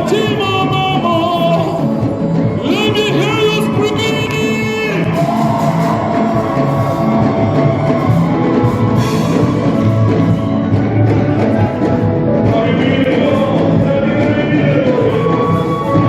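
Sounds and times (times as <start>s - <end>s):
band music with drums: 0.0s - 16.0s.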